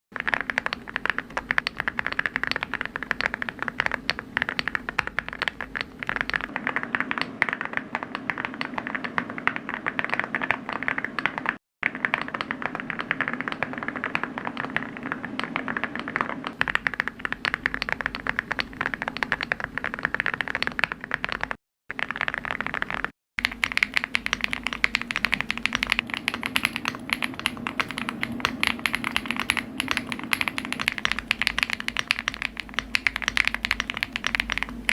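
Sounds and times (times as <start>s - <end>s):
typing on mechanical keyboard: 0.2s - 34.9s.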